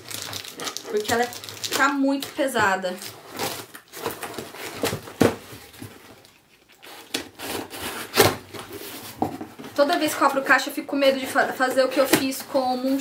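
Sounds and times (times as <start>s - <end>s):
cardboard crackling and rustling: 0.0s - 13.0s.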